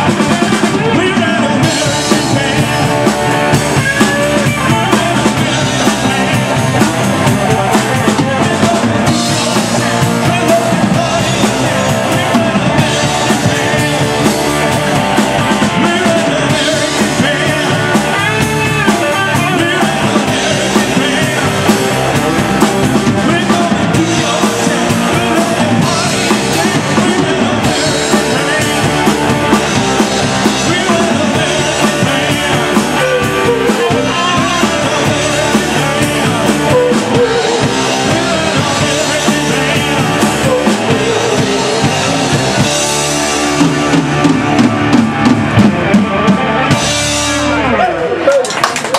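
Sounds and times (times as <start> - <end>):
person singing: 0.0 - 48.0
drum kit: 0.0 - 48.9
guitar: 0.0 - 48.9
live rock band playing: 0.0 - 48.9.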